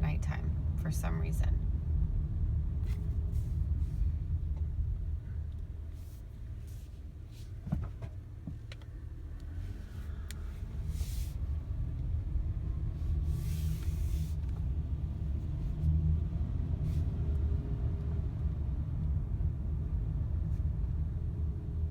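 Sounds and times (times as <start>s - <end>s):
engine and road rumble: 0.0s - 21.9s.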